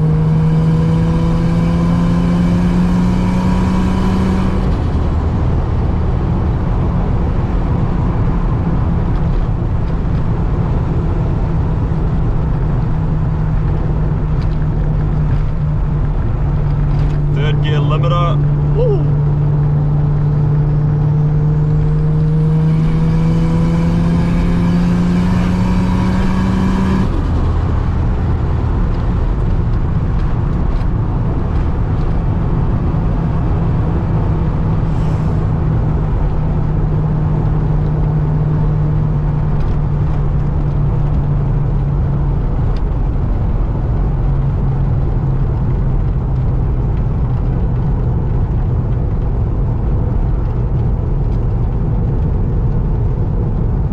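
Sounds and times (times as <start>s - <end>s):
car engine accelerating: 0.0s - 53.9s
road noise: 0.0s - 53.9s.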